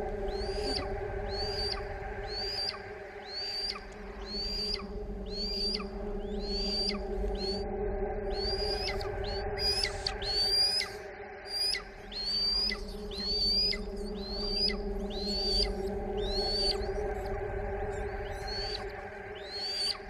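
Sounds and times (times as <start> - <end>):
bird whistling rising notes: 0.0 - 20.0
steady low hum: 0.0 - 20.0.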